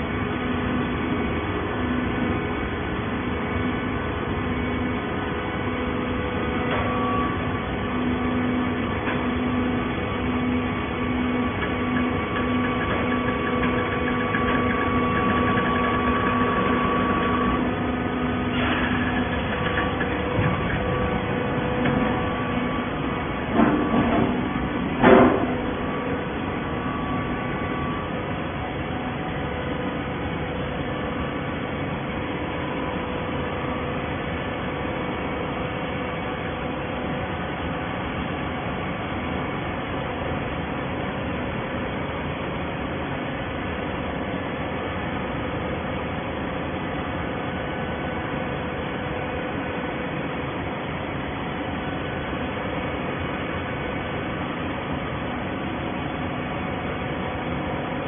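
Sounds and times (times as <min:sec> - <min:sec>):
machine drone with whine: 0:00.0 - 0:58.0.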